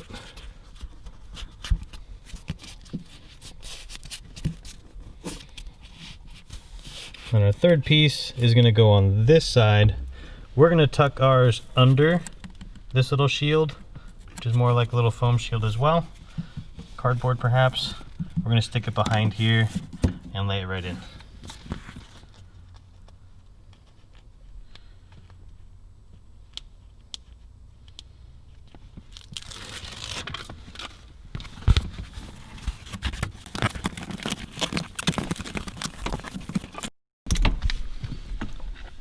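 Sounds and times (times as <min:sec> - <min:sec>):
padding crinkling and rustling: 0:00.0 - 0:08.8, 0:09.5 - 0:24.3, 0:28.7 - 0:39.0.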